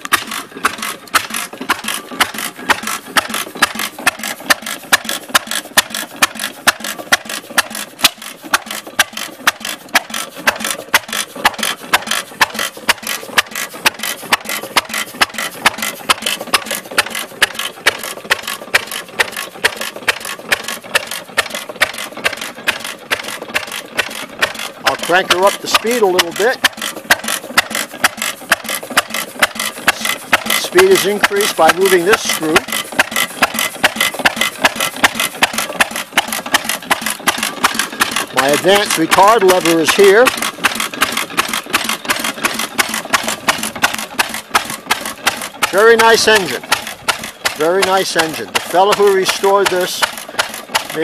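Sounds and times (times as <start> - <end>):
stationary engine running slowly: 0.0 - 51.0.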